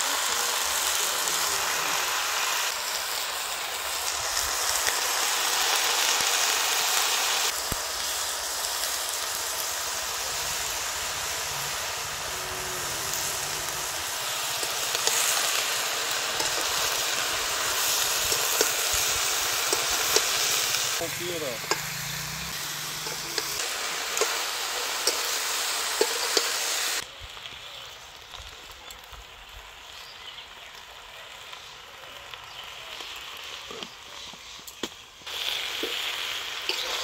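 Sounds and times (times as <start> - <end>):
vegetables sizzling in hot oil: 0.0 - 37.0.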